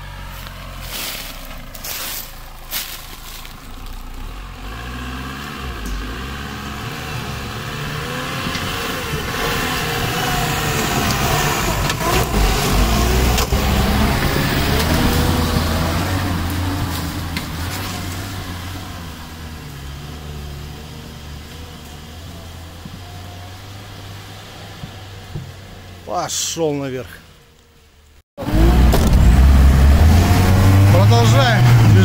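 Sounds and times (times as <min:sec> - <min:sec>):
off-road vehicle engine revving: 0:00.0 - 0:26.3, 0:28.4 - 0:32.0.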